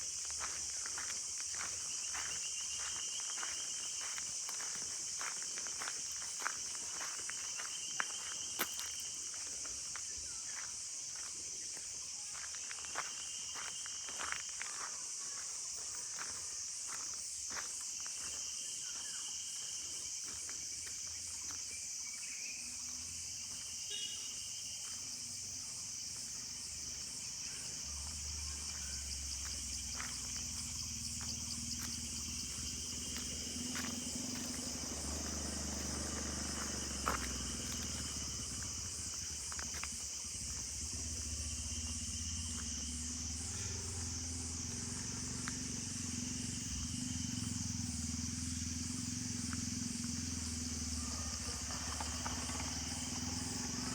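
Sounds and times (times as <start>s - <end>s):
insect chorus trilling: 0.0s - 53.9s.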